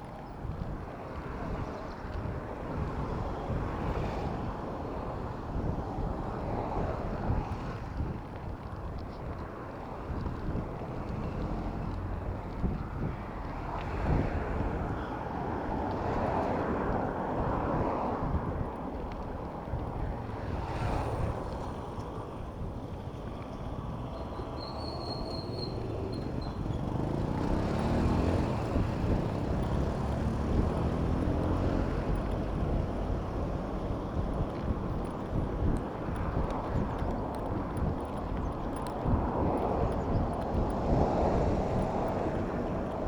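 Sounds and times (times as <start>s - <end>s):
city traffic: 0.0s - 43.0s
wind buffeting microphone: 0.0s - 43.0s.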